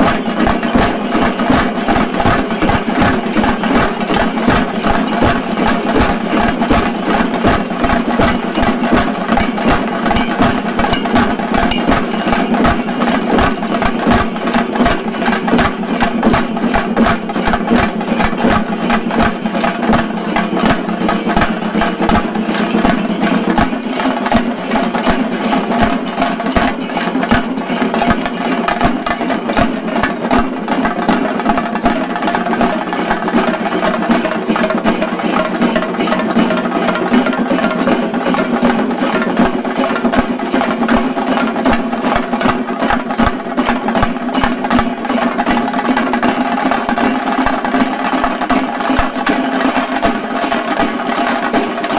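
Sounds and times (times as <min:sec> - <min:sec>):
drums beaten in rapid rhythm: 0:00.0 - 0:51.9.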